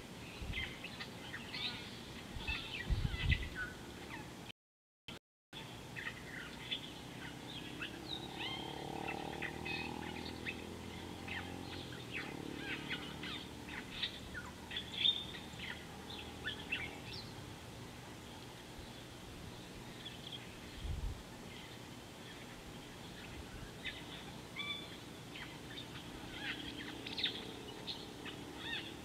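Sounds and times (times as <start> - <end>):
wild birds chirping: 0.0 - 4.5, 5.6 - 29.0.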